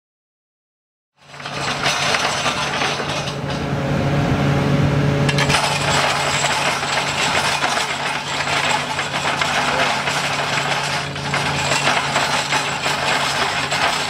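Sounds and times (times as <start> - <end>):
drum cutter grinding rock: 1.2 - 3.8, 5.3 - 14.0
excavator engine droning: 1.2 - 14.0.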